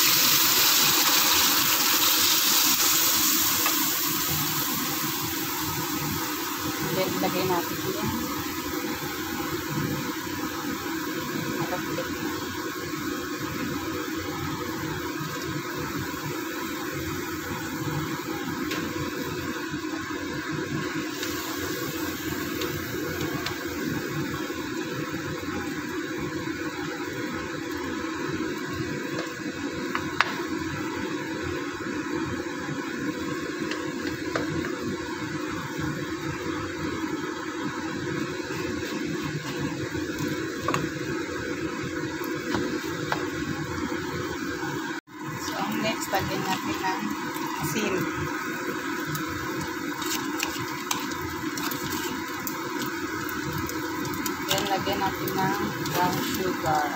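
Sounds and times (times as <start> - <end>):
liquid boiling in a wok: 0.0 - 56.9.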